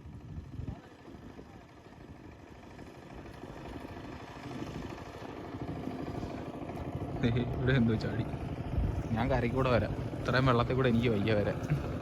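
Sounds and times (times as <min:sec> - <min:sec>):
distant engine running: 0:00.0 - 0:12.0.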